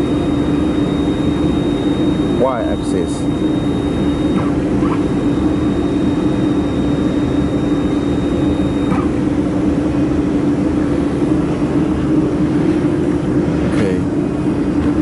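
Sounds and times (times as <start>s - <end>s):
faint high whine: 0.0s - 14.1s.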